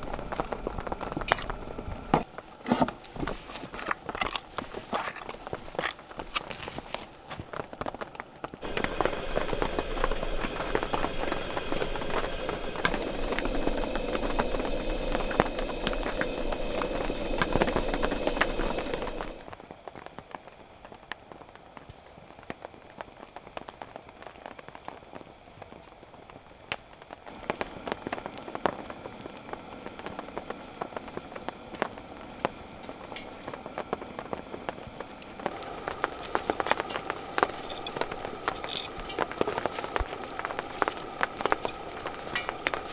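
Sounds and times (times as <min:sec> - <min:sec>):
rain pattering: 0:00.0 - 0:02.6, 0:03.3 - 0:42.9.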